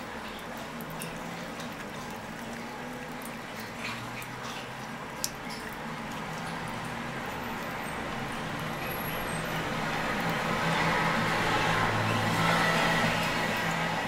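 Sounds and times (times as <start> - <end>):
cat lapping water: 0.0 - 14.0.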